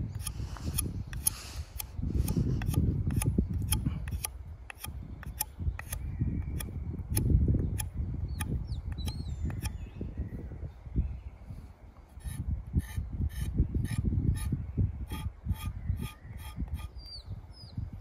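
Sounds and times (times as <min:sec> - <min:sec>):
knife scraping wood: 0:00.0 - 0:09.8, 0:12.1 - 0:17.1.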